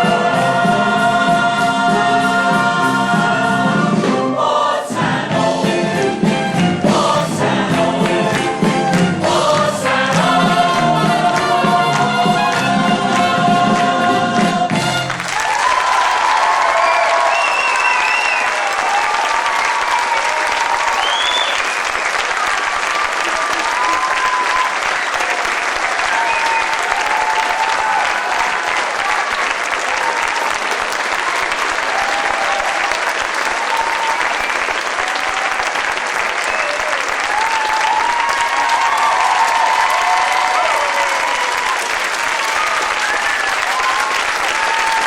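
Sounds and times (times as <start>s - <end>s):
audience applauding: 7.8s - 45.0s.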